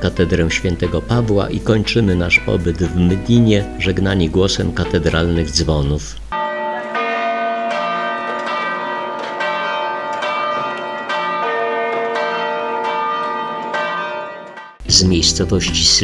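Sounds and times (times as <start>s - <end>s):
church bells ringing a peal: 0.0s - 5.4s, 6.3s - 15.8s.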